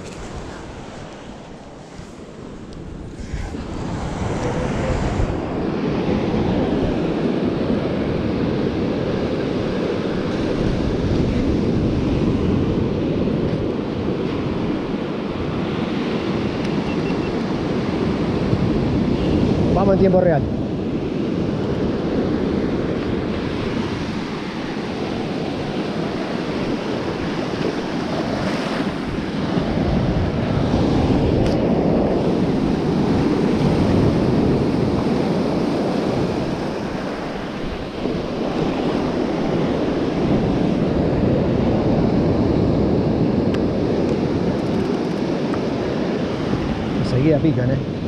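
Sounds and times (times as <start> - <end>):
ocean surf breaking on beach: 0.0 - 48.0
wind rushing over microphone: 0.0 - 48.0.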